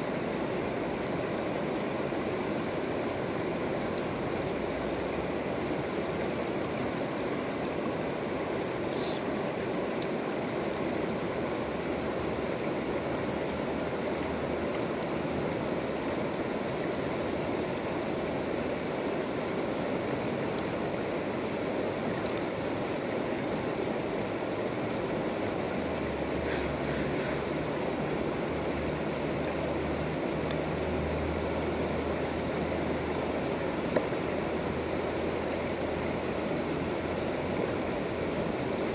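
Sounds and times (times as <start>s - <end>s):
river rushing over stones: 0.0s - 38.9s.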